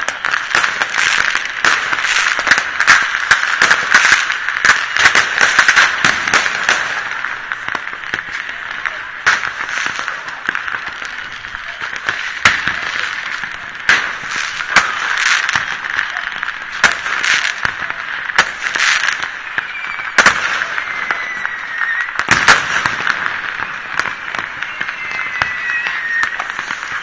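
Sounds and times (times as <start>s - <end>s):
distant fireworks bangs: 0.0s - 27.0s.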